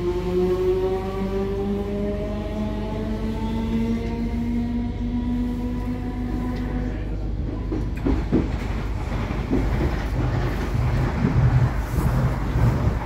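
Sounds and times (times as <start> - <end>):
train wheels rumbling and clattering: 0.0 - 13.0.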